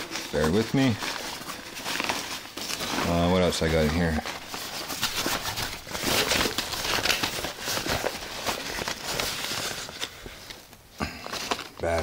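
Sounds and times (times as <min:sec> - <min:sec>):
rustling of backpack fabric: 0:00.0 - 0:12.0.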